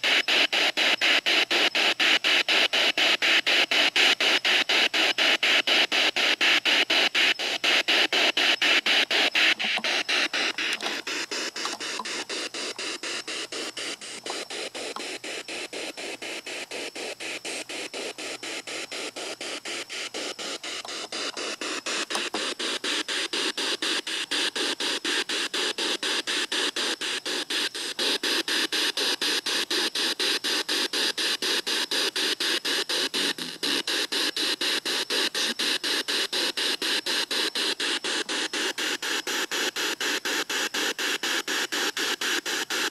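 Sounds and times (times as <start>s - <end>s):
radio static hissing: 0.0s - 42.9s
rapid clicks: 0.0s - 42.9s.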